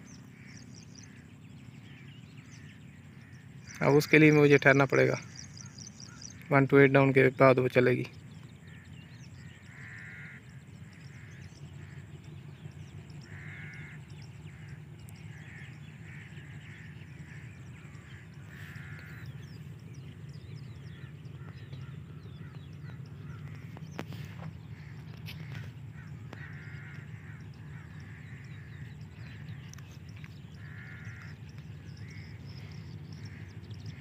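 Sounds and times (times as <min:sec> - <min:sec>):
low steady rumble: 0:00.0 - 0:34.0
small birds chirping: 0:00.0 - 0:34.0
crows cawing: 0:00.2 - 0:01.3, 0:01.9 - 0:06.6, 0:08.6 - 0:34.0.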